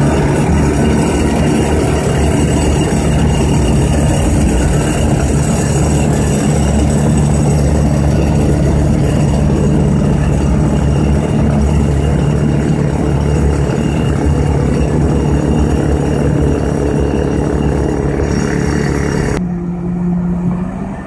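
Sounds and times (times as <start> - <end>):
diesel loader engine running: 0.0 - 21.0.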